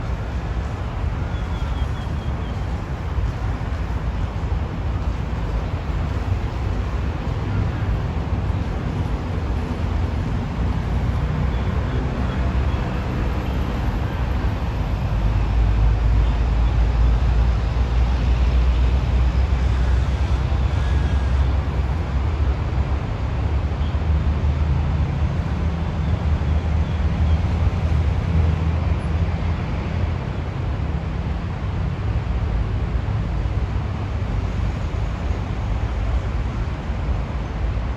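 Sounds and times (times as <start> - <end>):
city traffic rumble: 0.0 - 37.9.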